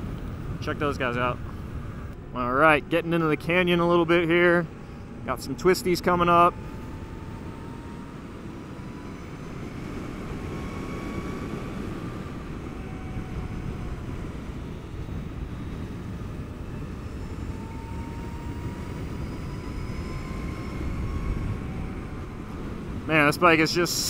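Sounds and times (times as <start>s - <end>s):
electric motor whine: 0.0s - 23.1s
wind rush over microphone: 4.7s - 24.0s.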